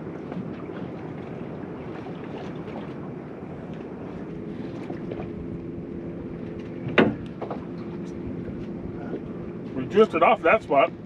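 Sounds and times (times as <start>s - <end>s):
faint motor hum: 0.0s - 11.0s.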